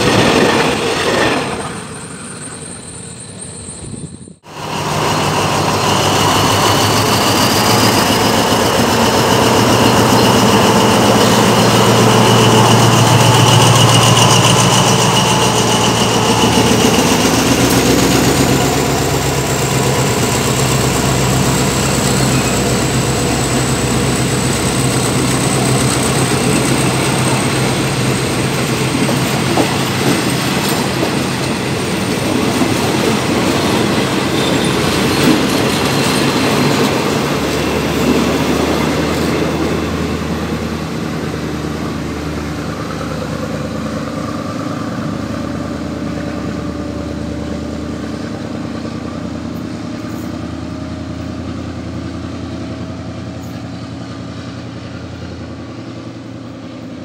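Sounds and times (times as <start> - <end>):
train coaches running on rails: 0.0 - 57.0.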